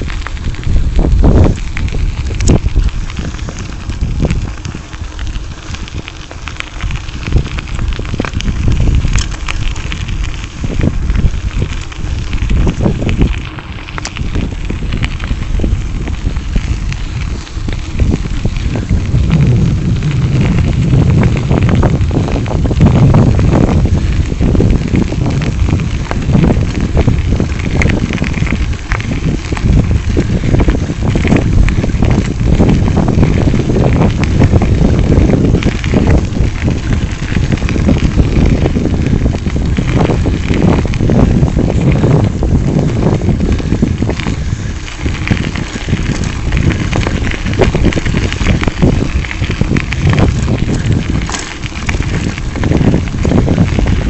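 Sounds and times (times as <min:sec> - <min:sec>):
tyres crackling on gravel: 0:00.0 - 0:54.0
wind buffeting microphone: 0:00.0 - 0:54.0.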